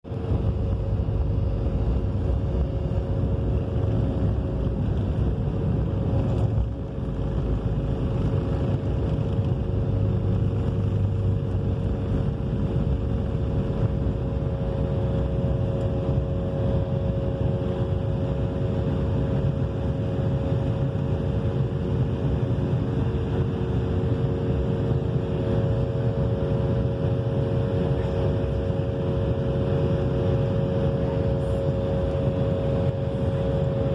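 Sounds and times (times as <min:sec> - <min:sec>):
jet engines roaring: 0:00.1 - 0:33.9.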